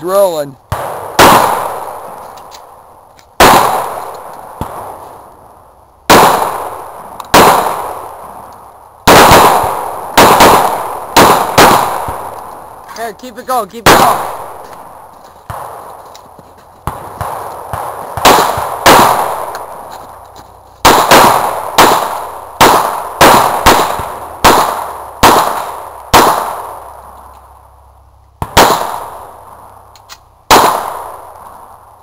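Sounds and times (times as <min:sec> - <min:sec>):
rifle shots echoing: 0:00.2 - 0:02.3, 0:03.4 - 0:05.2, 0:06.0 - 0:16.1, 0:16.8 - 0:19.9, 0:20.8 - 0:27.3, 0:28.4 - 0:29.7, 0:30.5 - 0:31.9.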